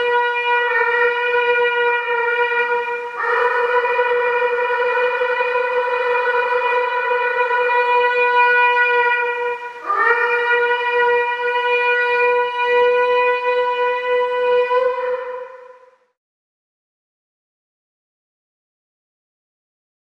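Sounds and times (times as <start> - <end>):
shofar blasts: 0.0 - 16.2.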